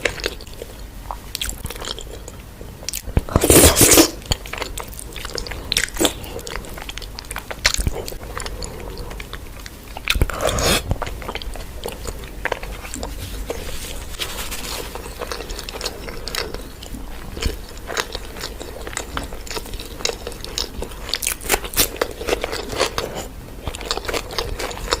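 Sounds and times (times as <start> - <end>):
person chewing and biting food: 0.0 - 25.0.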